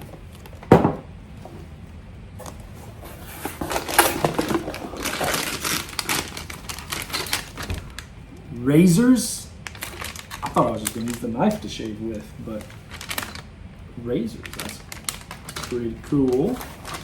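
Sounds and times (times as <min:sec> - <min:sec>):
packaging crinkling: 0:02.4 - 0:17.0.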